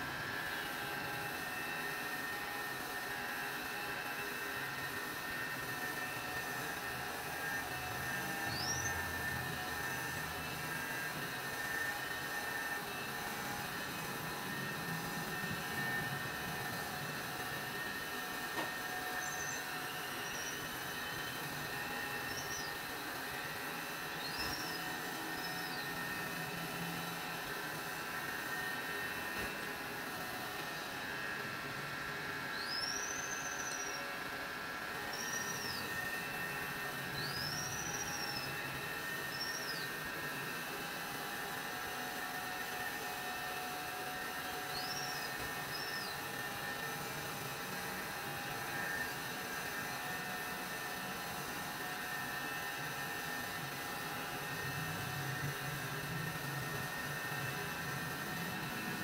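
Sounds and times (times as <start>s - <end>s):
grinding machine whirring hiss: 0.0s - 59.0s.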